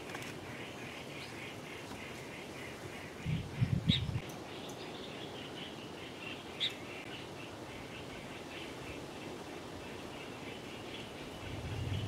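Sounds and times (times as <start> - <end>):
small birds twittering: 0.1 - 12.0.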